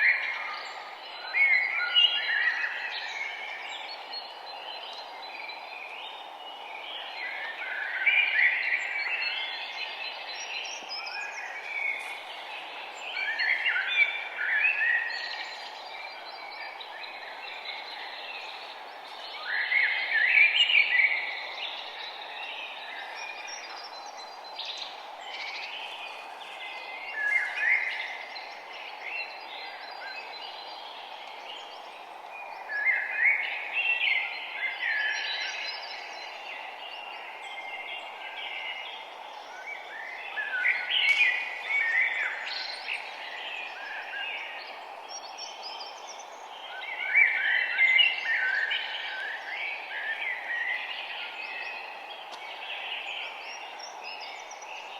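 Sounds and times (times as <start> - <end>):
outdoor background noise: 0.0 - 54.9.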